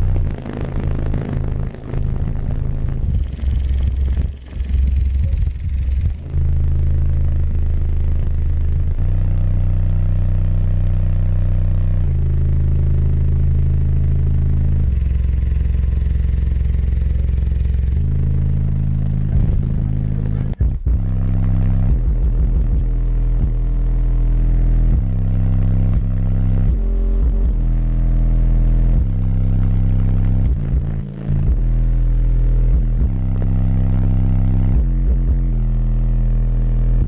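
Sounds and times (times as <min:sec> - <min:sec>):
bass-heavy music from subwoofers: 0:00.0 - 0:37.0.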